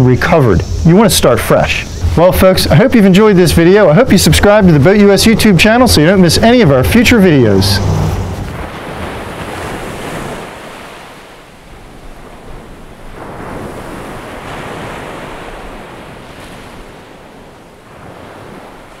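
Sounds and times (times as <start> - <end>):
ocean waves washing in: 0.0 - 19.0.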